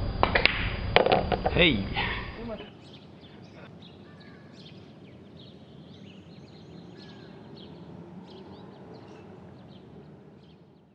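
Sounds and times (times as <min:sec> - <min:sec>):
low background hiss: 0:00.0 - 0:10.8
birds chirping: 0:01.4 - 0:10.9.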